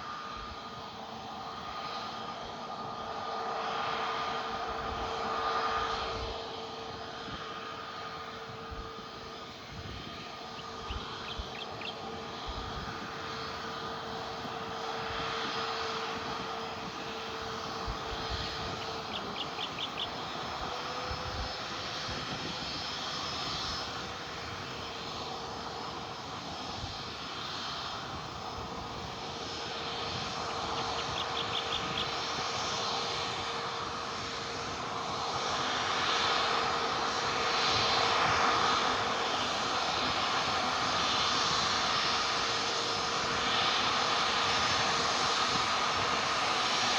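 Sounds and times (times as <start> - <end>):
aircraft engines humming: 0.0 - 46.9.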